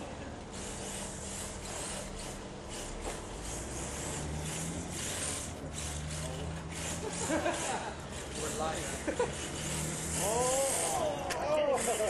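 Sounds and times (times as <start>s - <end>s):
toy car tyres scrubbing: 0.5s - 12.0s.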